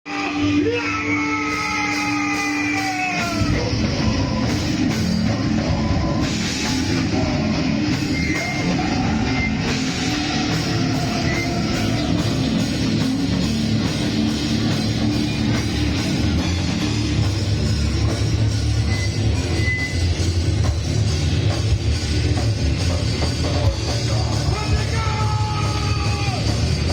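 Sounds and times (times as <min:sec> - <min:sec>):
drum kit: 0:00.1 - 0:26.9
electric guitars: 0:00.1 - 0:26.9.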